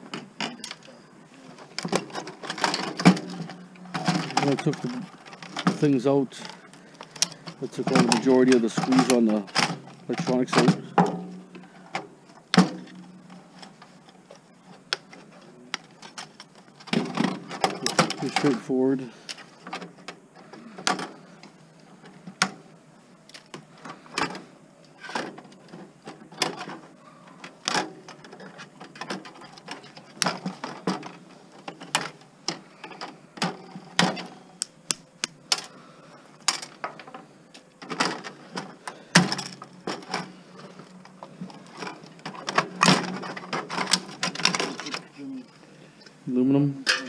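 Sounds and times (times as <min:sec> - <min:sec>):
parts clattering while disassembling: 0:00.0 - 0:46.2.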